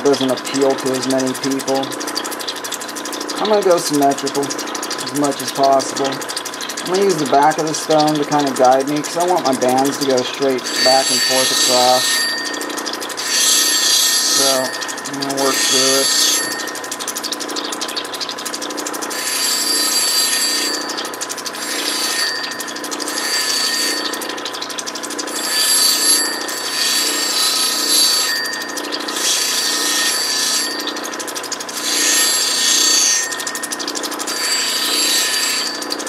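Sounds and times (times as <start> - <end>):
stone grinding on wheel: 0.0 - 18.1, 18.9 - 36.0
grinding wheel whining: 0.0 - 36.0.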